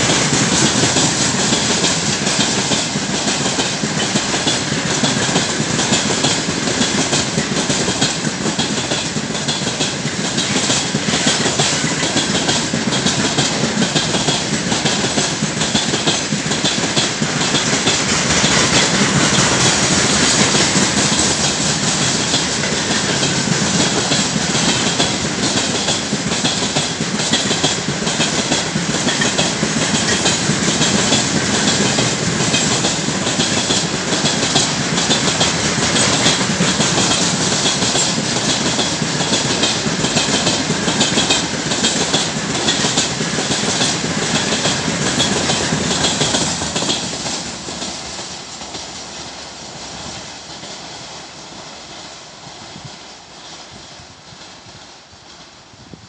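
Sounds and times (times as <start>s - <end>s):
train wheels clattering over rail joints: 0.0s - 54.8s.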